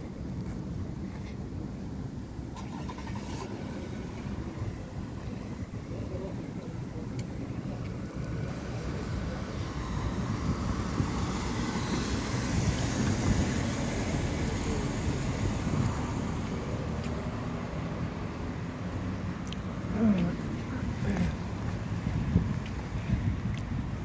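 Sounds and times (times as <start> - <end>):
wind buffeting microphone: 0.0 - 18.3, 20.3 - 24.0
road traffic hum: 0.0 - 24.0.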